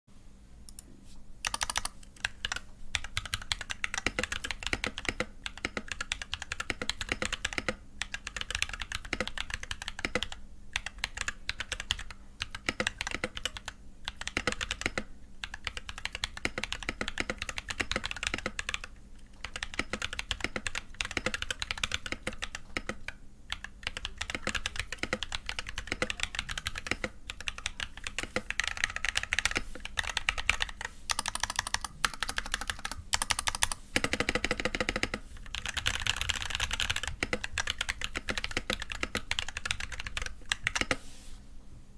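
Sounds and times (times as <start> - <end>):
mechanical keyboard keystroke clacks: 1.4 - 41.0.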